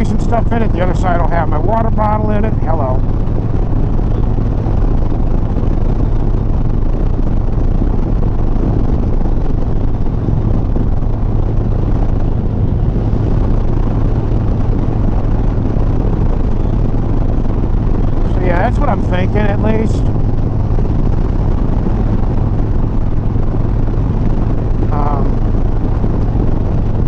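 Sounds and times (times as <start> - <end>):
wind and road noise: 0.0 - 27.0
motorcycle engine running: 2.2 - 27.0.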